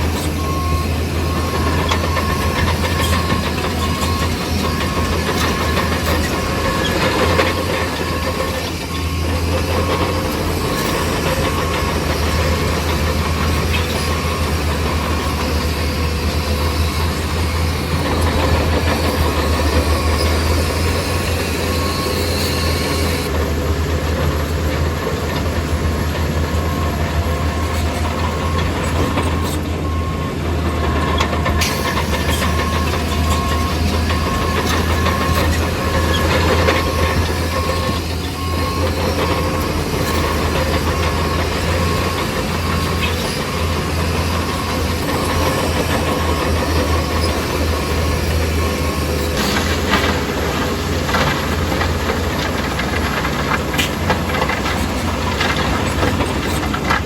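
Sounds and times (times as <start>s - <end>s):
diesel engine low drone: 0.0s - 57.0s.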